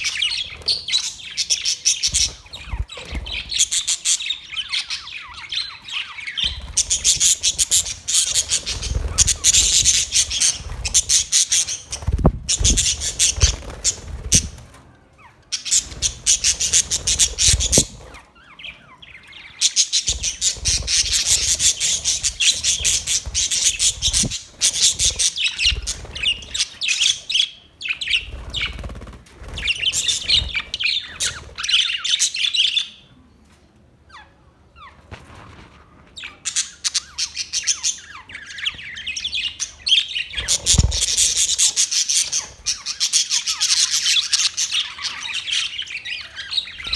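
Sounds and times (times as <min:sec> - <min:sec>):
parrots chattering and squawking: 0:00.0 - 0:28.8, 0:29.6 - 0:33.0, 0:36.2 - 0:46.9.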